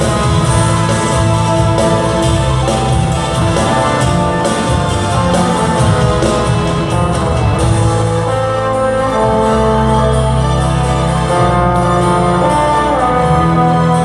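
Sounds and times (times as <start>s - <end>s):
steady bass line: 0.0s - 14.0s
sustained guitar chords: 0.0s - 14.0s.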